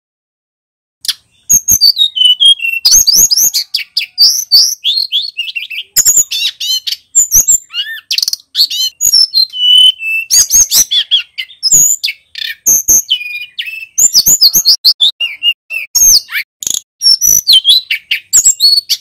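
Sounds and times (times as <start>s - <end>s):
songbird singing: 1.0s - 19.0s.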